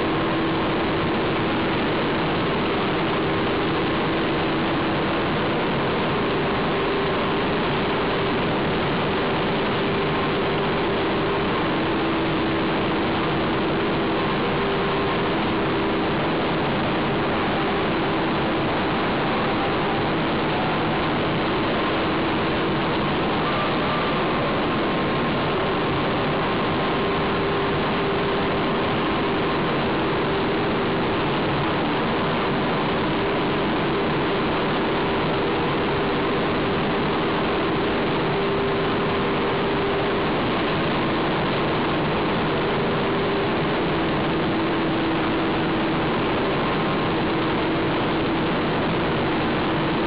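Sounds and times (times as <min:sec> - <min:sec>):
faint hum: 0:00.0 - 0:50.0
steel mill rolling noise: 0:00.0 - 0:50.0.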